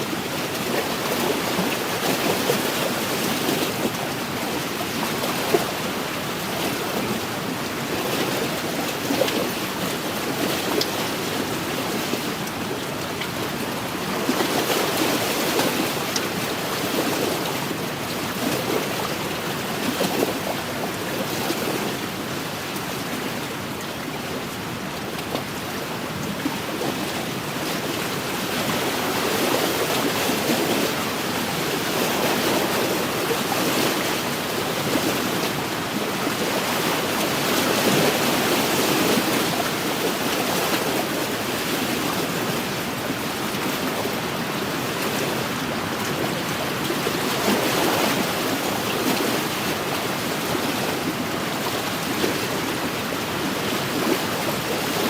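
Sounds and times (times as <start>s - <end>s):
waves lapping against shore: 0.0s - 55.0s.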